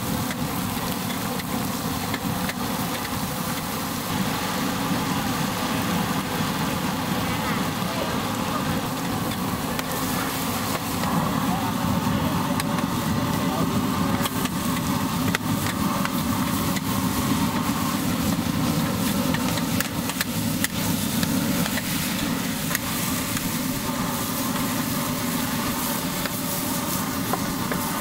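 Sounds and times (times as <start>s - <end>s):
gas burner rumbling: 0.0s - 28.0s.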